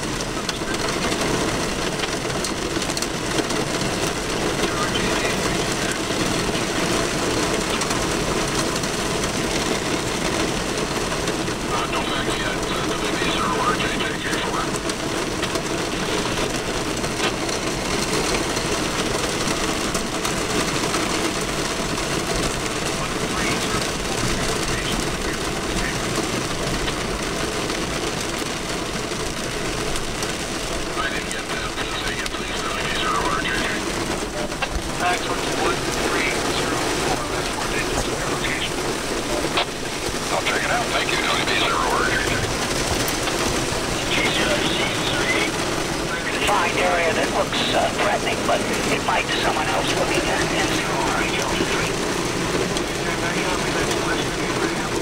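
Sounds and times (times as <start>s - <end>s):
heavy rain and wind on vehicle: 0.0s - 55.0s.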